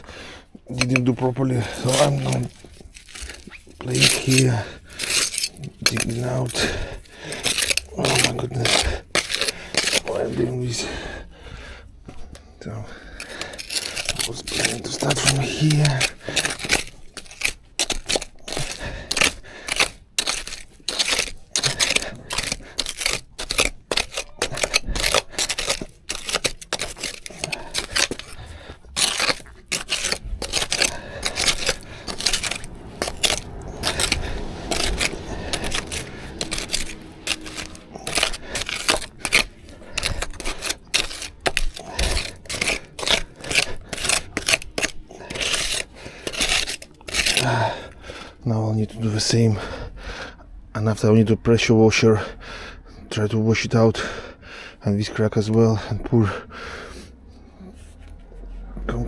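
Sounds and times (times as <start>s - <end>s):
metal shovel scraping stony ground: 0.7s - 11.3s, 12.7s - 49.7s.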